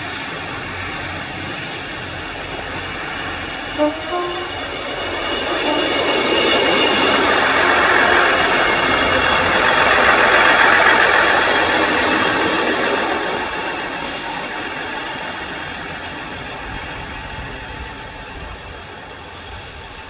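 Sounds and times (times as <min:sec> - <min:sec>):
freight train passing on rails: 0:00.0 - 0:20.0.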